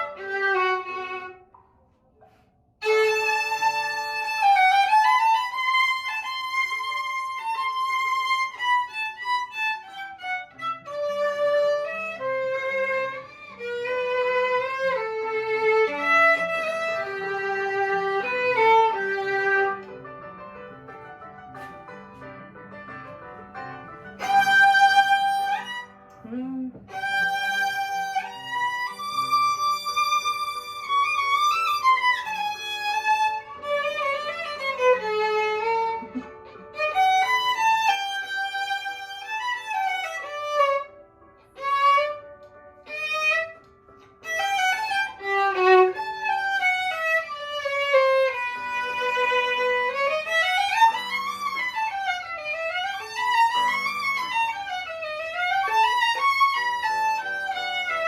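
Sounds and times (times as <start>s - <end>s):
violin playing: 0.0s - 1.6s, 2.8s - 20.3s, 23.0s - 58.0s.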